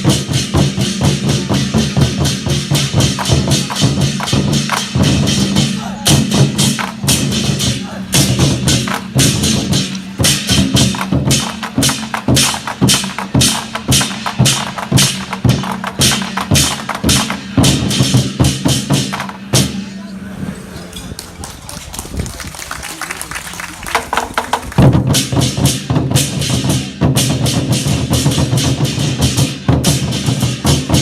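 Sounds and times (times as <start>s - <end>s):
war drums beaten fast: 0.0s - 20.0s, 23.8s - 31.0s.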